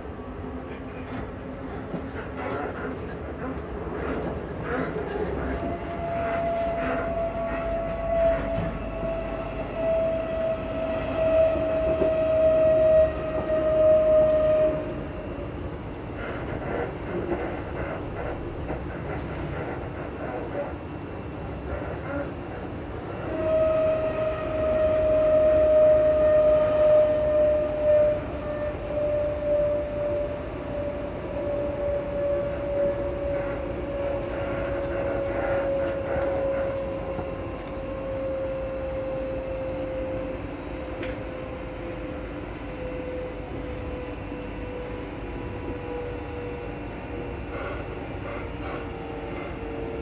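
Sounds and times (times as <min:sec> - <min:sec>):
train rumbling on rails: 0:00.0 - 0:50.0.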